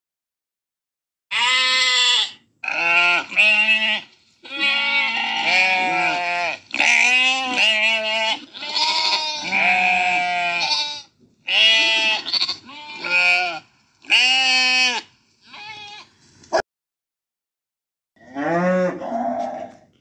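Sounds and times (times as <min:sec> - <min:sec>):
sheep bleating: 0:01.3 - 0:16.1, 0:18.2 - 0:19.8.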